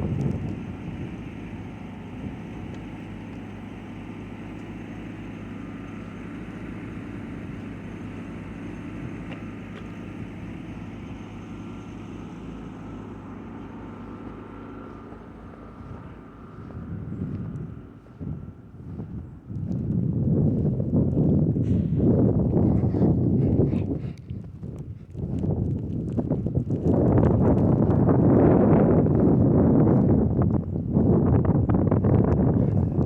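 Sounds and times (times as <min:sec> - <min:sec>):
engine hum: 0:00.0 - 0:33.0.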